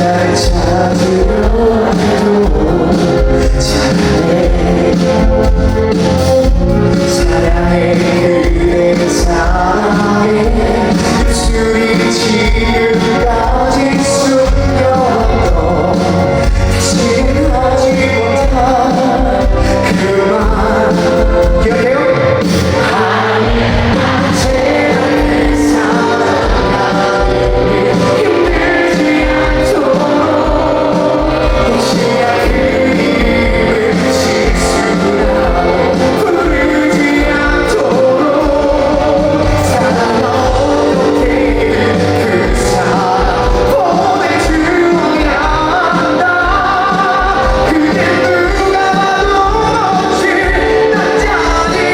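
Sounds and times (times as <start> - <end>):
man singing: 0.0 - 51.9
pop-rock band playing live: 0.0 - 51.9
steady drum beat: 0.0 - 51.9.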